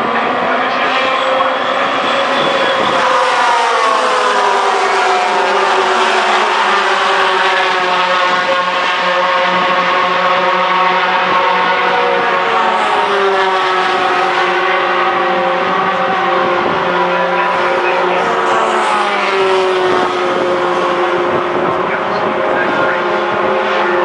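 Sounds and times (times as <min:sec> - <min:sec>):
truck engines racing: 0:00.0 - 0:24.0.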